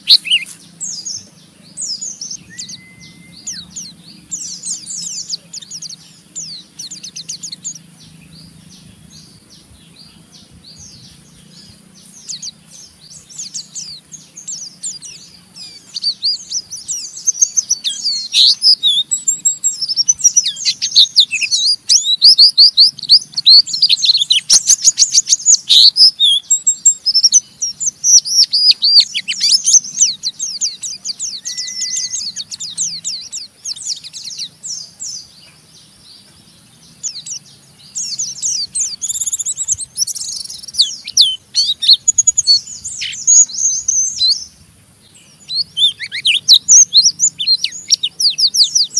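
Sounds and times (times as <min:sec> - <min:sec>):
white-eye bird twittering: 0:00.0 - 0:48.9.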